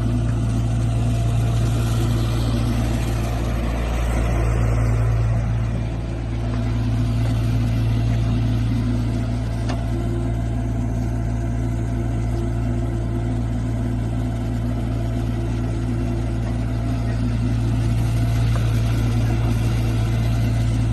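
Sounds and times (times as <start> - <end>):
diesel engine humming: 0.0 - 20.9.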